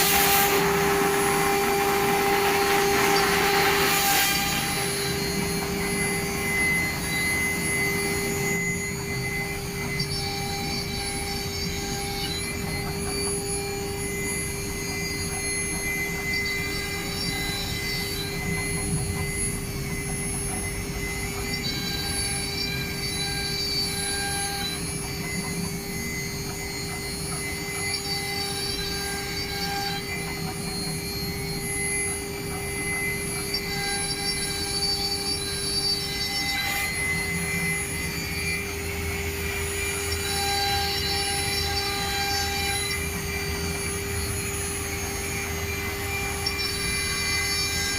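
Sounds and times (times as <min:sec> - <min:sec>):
higher-pitched machine whines: 0:00.0 - 0:47.9
router spindle whine: 0:00.0 - 0:47.9.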